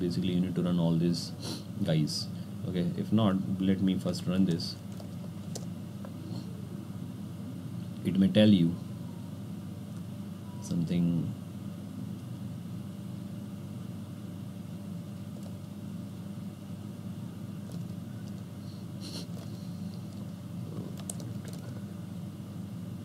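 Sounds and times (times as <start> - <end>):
low hum: 2.2 - 23.0.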